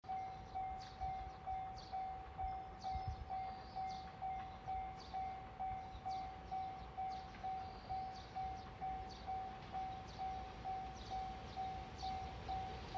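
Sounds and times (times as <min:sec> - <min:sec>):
level-crossing warning bell ringing: 0:00.0 - 0:12.9.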